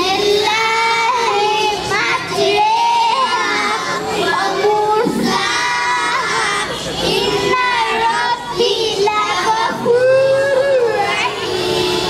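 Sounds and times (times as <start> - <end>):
children singing: 0.0 - 12.0.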